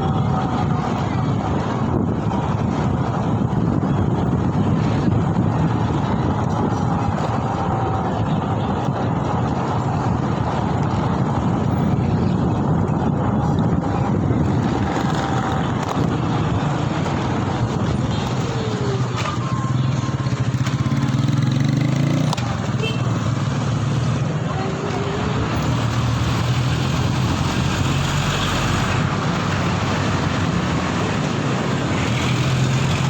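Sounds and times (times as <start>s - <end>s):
road and traffic noise: 0.0s - 33.0s
wind rush on microphone: 0.0s - 33.0s.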